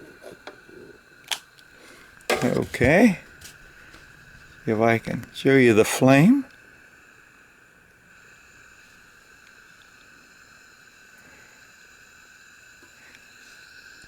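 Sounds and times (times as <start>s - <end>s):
gas burner flame hissing: 0.0s - 14.0s.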